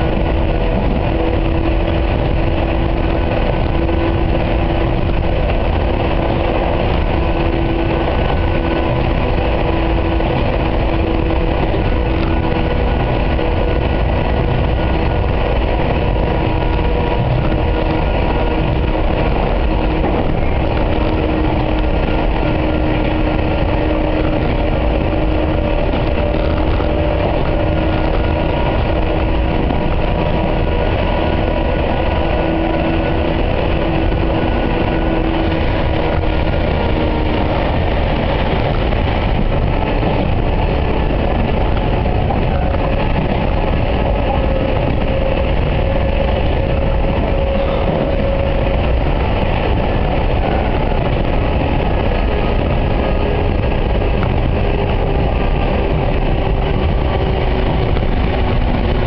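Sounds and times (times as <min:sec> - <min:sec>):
traction motor hum: 0:00.0 - 0:59.0
train wheels rumbling on rail: 0:00.0 - 0:59.0.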